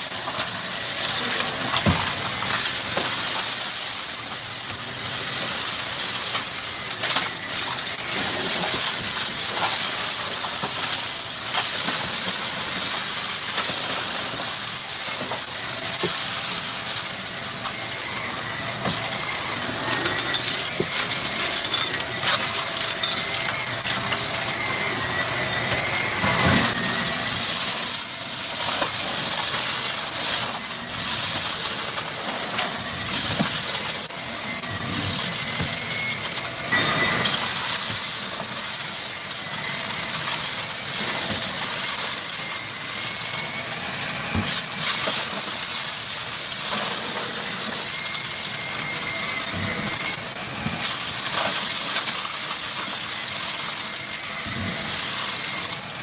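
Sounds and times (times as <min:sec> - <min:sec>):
debris rattling through vacuum: 0:00.0 - 0:56.0
vacuum cleaner hissing: 0:00.0 - 0:56.0.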